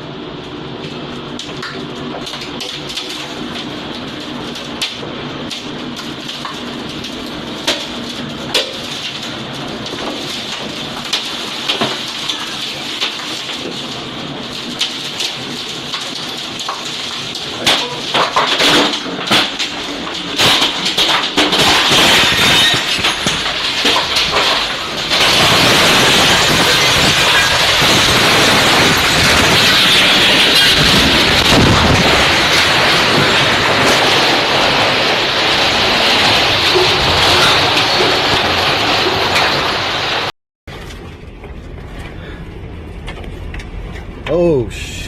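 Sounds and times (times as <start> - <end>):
heavy rain: 2.7 - 40.3.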